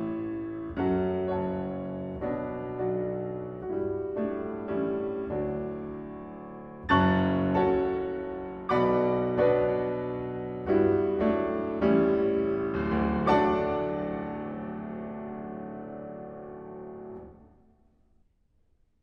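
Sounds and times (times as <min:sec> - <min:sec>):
grand piano chords: 0:00.0 - 0:17.7.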